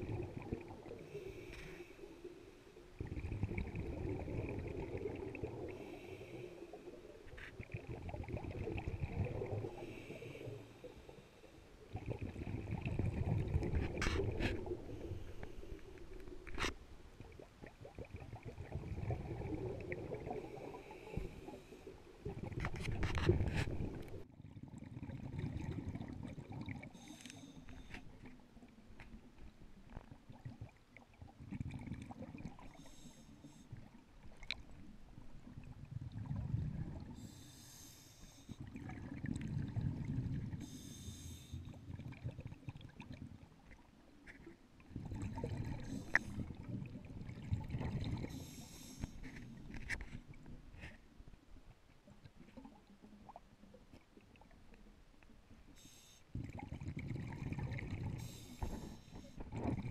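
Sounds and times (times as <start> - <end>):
underwater exhale bubbling: 0.0 - 16.5, 17.2 - 28.2, 30.3 - 43.4, 44.8 - 49.8, 55.8 - 59.9.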